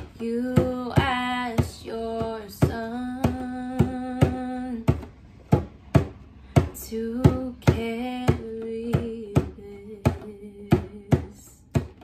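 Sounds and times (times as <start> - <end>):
woman singing long notes: 0.0 - 5.0, 6.6 - 11.8
hand drum beating: 0.1 - 12.0.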